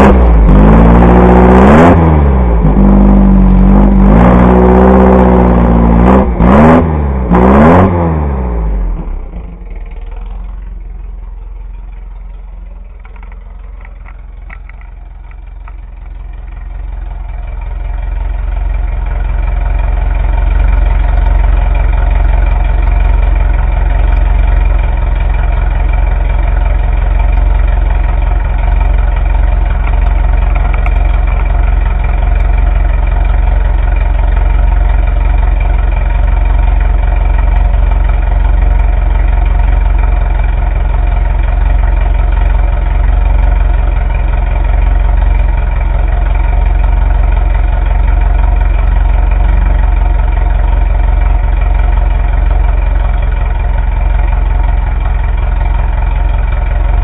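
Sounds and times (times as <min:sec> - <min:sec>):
dune buggy engine idling: 0:00.0 - 0:57.0.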